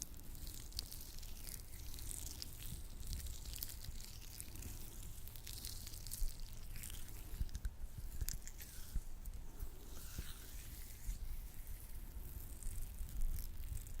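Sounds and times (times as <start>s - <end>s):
wet squishing of lotion: 0.0s - 14.0s
gloved hands rubbing: 0.9s - 13.0s.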